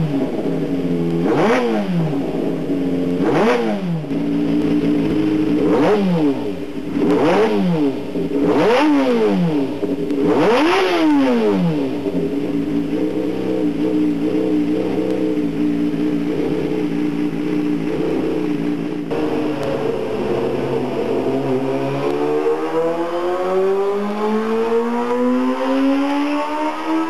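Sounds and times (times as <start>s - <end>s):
motorcycle engine idling: 0.0s - 23.0s
motorcycle engine revving: 0.0s - 27.0s.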